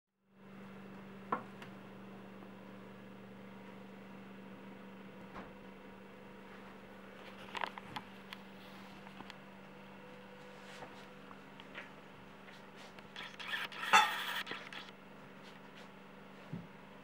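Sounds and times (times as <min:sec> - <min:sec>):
refrigerator compressor humming: 0:00.2 - 0:17.0.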